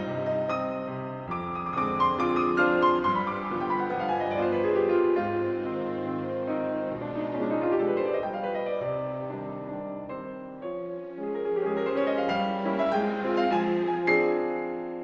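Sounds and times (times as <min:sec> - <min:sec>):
sustained strings: 0:00.0 - 0:09.9, 0:10.8 - 0:15.0
slow piano: 0:00.0 - 0:15.0.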